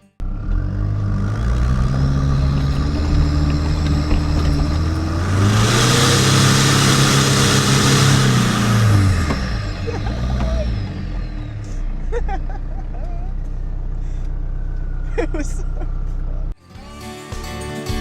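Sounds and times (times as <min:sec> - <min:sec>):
diesel engine revving: 0:00.2 - 0:16.6.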